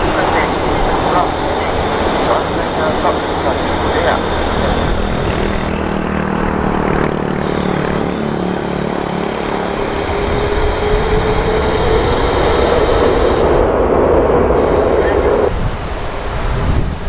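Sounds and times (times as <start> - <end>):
jet engines roaring with a whine: 0.0 - 17.0.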